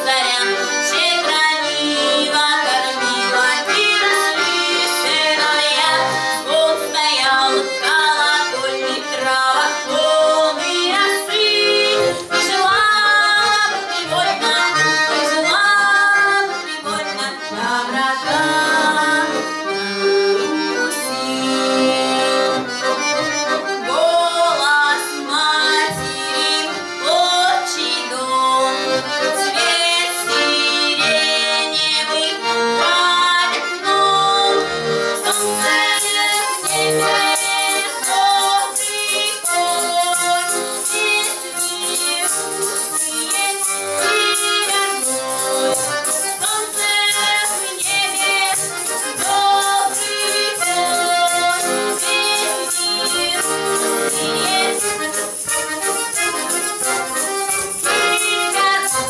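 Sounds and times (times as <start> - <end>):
woman singing: 0.0 - 19.5, 23.8 - 45.0, 46.1 - 55.1, 57.8 - 59.0
button accordion: 0.0 - 59.0.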